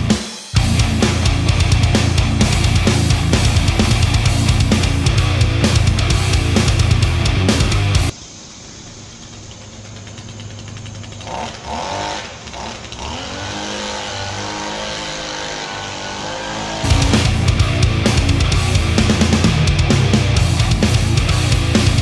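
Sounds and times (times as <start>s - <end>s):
small engine running: 0.0s - 22.0s
leaf blower engine sputtering: 0.6s - 21.9s.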